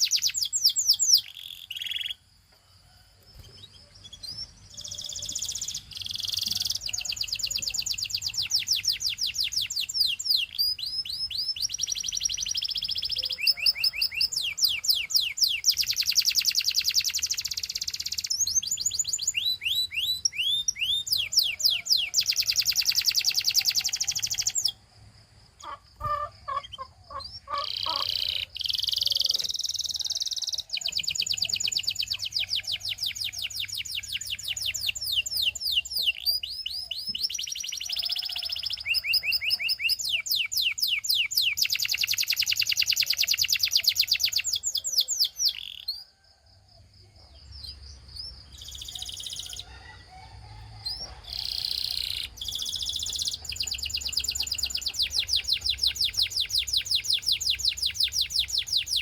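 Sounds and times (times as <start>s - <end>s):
canary trilling: 0.0s - 2.2s, 3.7s - 24.8s, 25.6s - 45.9s, 50.9s - 59.0s.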